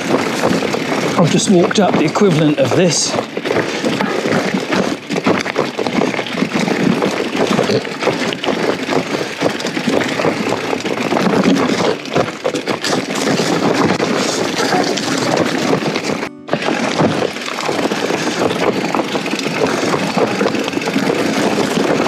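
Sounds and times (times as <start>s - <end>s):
bike rattling and clattering: 0.0s - 22.0s
tyres crunching over loose stones: 0.0s - 22.0s.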